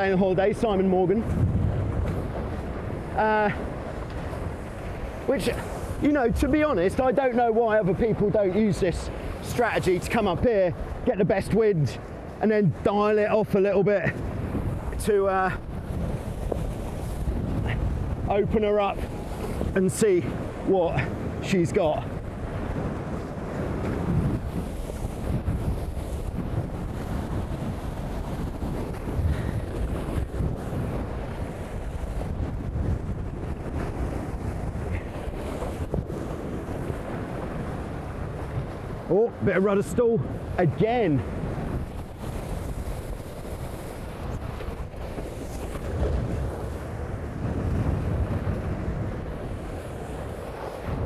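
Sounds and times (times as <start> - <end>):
water rushing along hulls: 0.0 - 51.0
wind buffeting microphone: 0.0 - 51.0.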